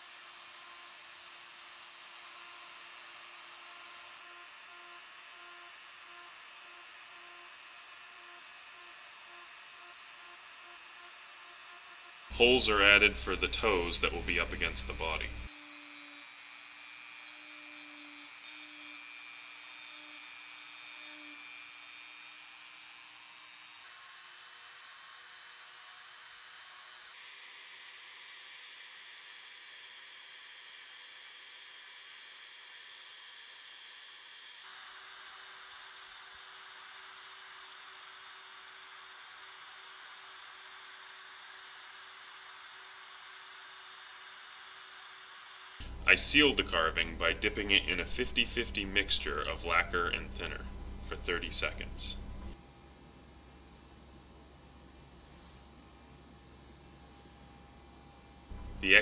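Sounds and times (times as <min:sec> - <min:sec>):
rotary tool high whine: 0:00.0 - 0:52.6.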